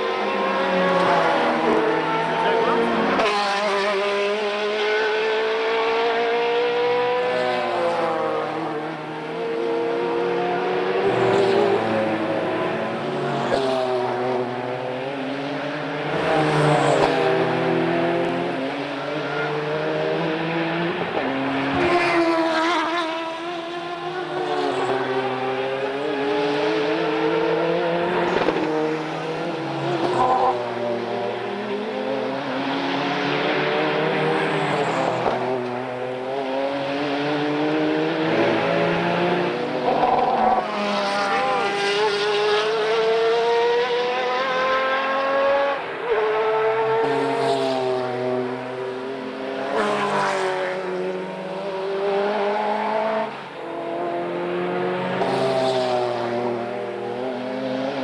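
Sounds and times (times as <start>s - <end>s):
race cars passing at speed: 0.0s - 58.0s.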